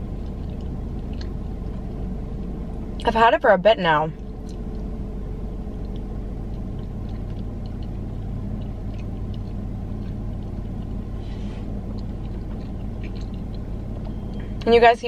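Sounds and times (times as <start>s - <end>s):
person chewing bread: 0.0s - 2.8s, 4.2s - 14.6s
car engine idling: 0.0s - 15.0s.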